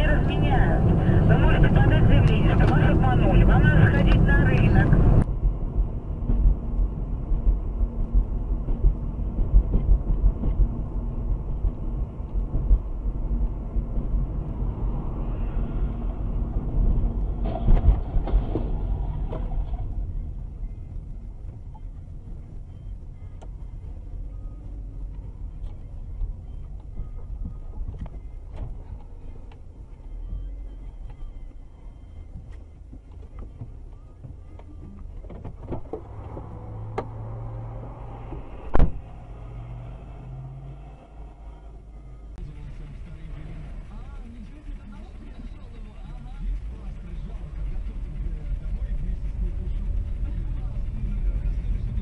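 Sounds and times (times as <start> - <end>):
road and engine rumble in car: 0.0 - 52.0.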